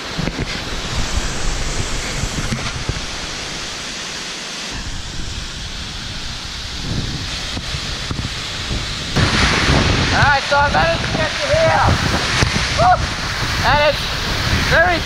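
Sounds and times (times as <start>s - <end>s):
waterfall rushing: 0.0s - 15.0s
wind rumbling on microphone: 0.0s - 15.0s.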